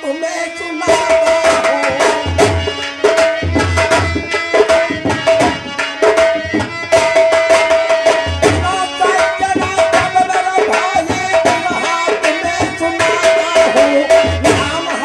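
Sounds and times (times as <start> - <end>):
held melody line: 0.0 - 15.0
hand drums fast rhythm: 0.8 - 15.0.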